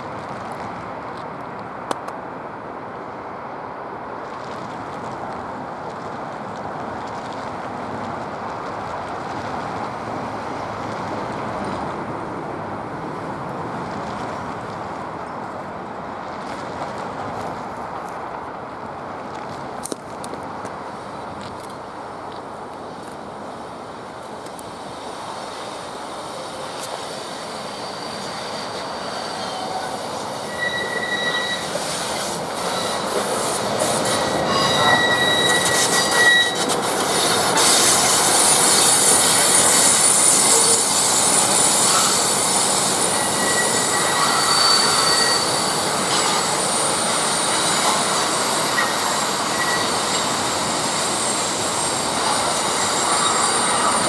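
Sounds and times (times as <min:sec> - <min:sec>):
train rolling past: 0:00.0 - 0:54.0
wheels squealing on rails: 0:02.5 - 0:54.0.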